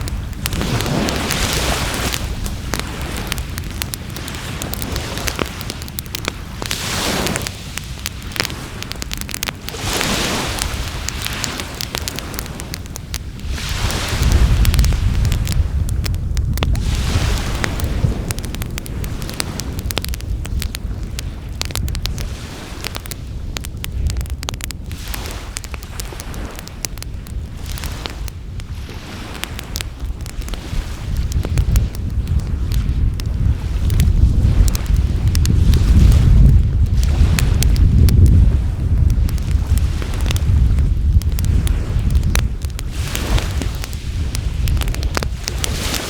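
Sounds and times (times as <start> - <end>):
wind on microphone: 0.0 - 46.0
wood fire crackling and popping: 0.0 - 46.0.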